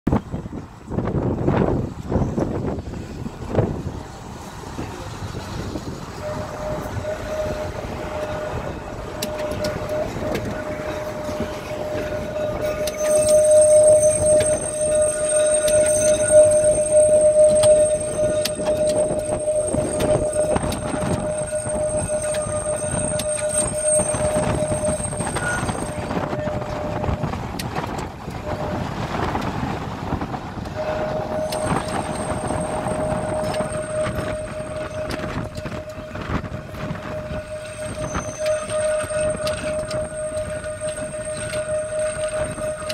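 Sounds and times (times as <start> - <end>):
tram wheels rumbling on track: 0.1 - 42.9
steady whine: 0.2 - 42.9.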